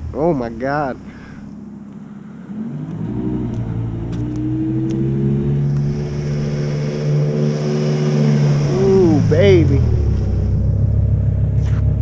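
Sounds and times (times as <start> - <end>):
car engine revving: 0.0 - 12.0
car exhaust droning: 0.0 - 12.0.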